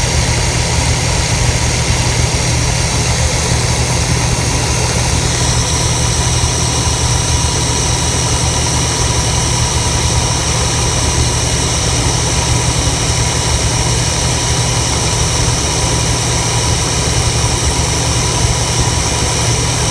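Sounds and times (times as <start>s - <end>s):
pickup truck engine idling: 0.0s - 19.9s.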